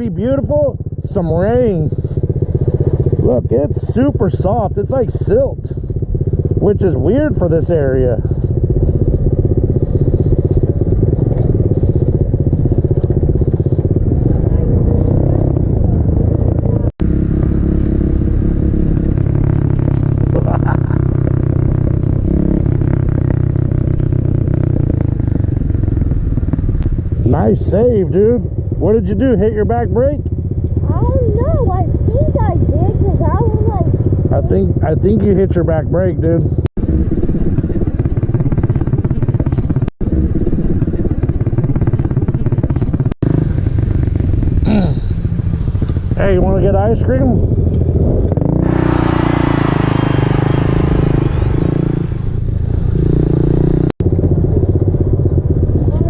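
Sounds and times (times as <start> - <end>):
pit bike engine running hard: 0.0 - 56.0.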